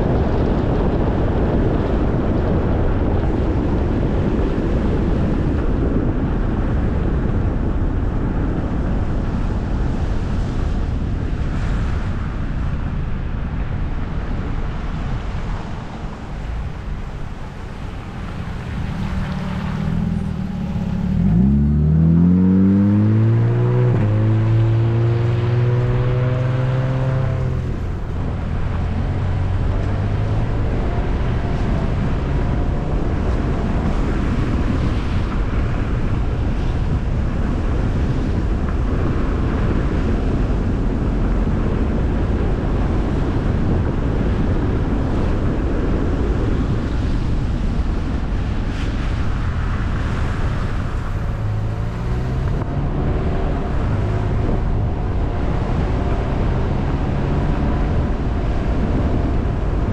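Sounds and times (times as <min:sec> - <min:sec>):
low engine hum: 0:00.0 - 0:59.9
tyre and road noise: 0:00.0 - 0:59.9
wind rushing over microphone: 0:00.0 - 0:59.9.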